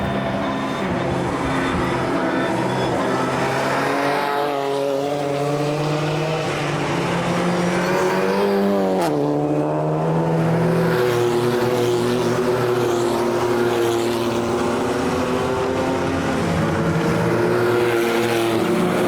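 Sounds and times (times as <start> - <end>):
race car engines accelerating: 0.0 - 19.0.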